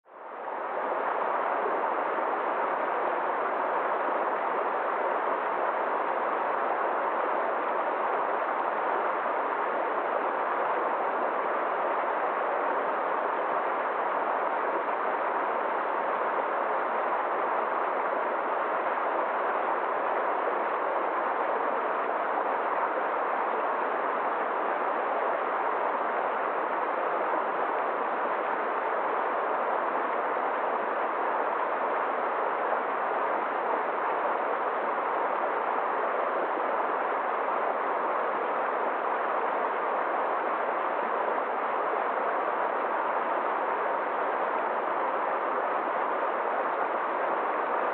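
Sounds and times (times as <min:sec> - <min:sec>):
stream rushing over rocks: 0:00.4 - 0:47.9.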